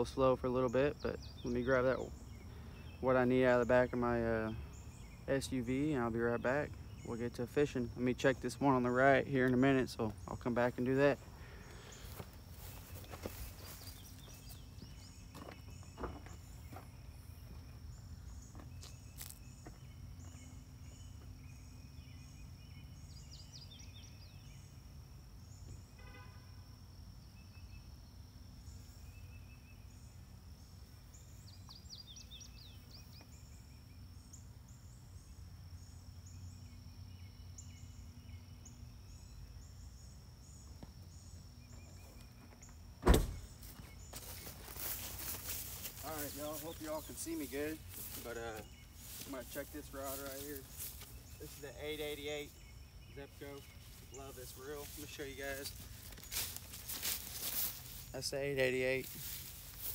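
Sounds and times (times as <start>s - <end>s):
birds chirping and calling: 0.0s - 25.9s, 27.2s - 59.9s.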